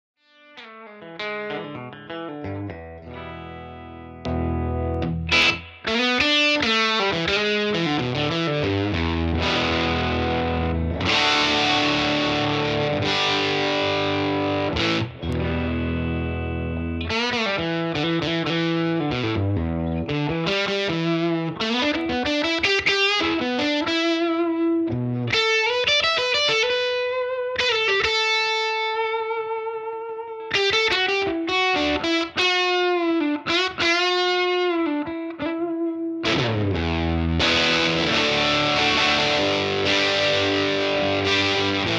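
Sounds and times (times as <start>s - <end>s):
overdriven electric guitar: 0.2s - 41.9s.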